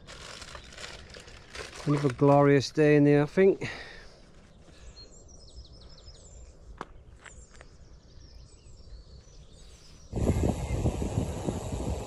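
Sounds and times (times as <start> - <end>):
faint birdsong: 0.2 - 12.0.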